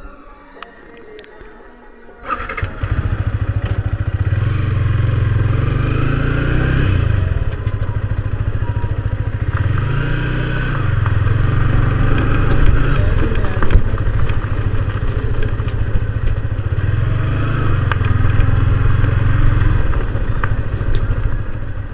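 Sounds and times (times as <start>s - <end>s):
motorcycle engine running: 2.2s - 21.9s.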